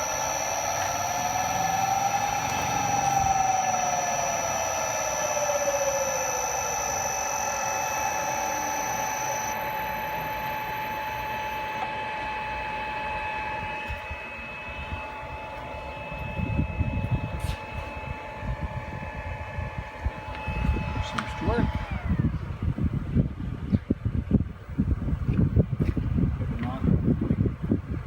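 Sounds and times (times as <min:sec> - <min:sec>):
electric motor whine: 0:00.0 - 0:23.3.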